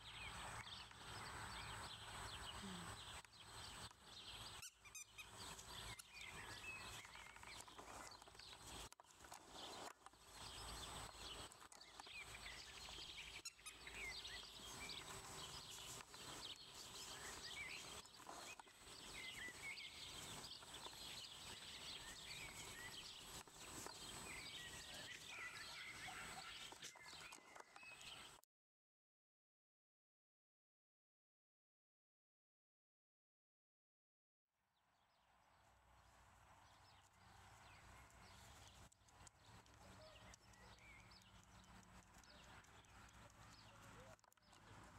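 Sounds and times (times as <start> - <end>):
birds chirping: 0.0 - 28.4, 36.7 - 44.9.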